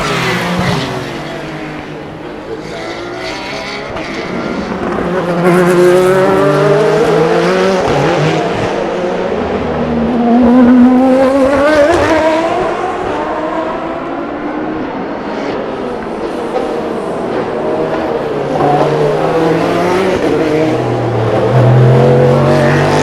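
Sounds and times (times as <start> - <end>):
race cars passing: 0.0 - 23.0.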